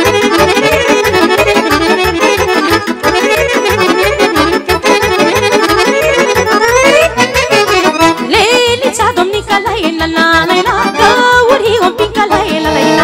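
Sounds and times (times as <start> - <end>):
accordion melody: 0.0 - 13.0.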